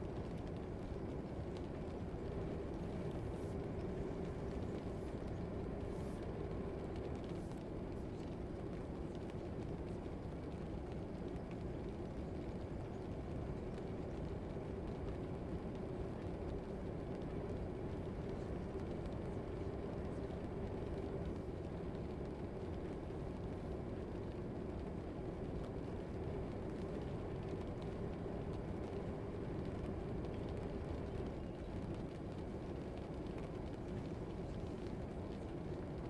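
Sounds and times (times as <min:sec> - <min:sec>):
low background rumble: 0:00.0 - 0:36.0.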